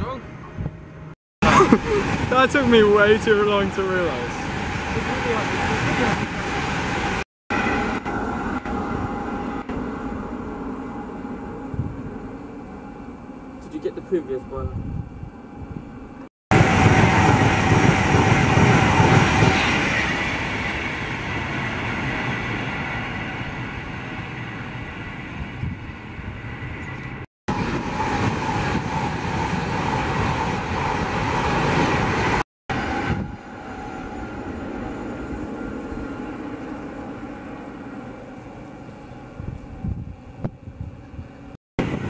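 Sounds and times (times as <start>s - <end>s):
express trains passing at speed: 0.1s - 42.0s.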